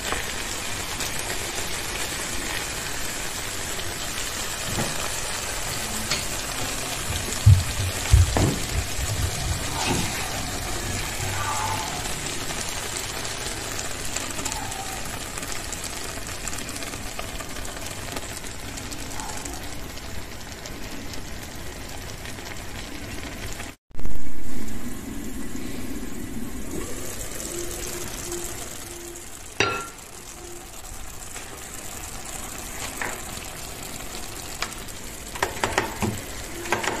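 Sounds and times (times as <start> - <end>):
vegetables sizzling in a pan: 0.0 - 37.0.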